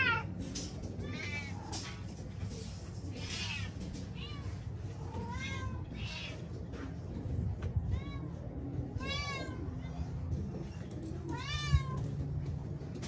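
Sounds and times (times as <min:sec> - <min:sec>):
cats meowing: 0:00.0 - 0:02.1, 0:03.0 - 0:06.7, 0:07.8 - 0:12.5.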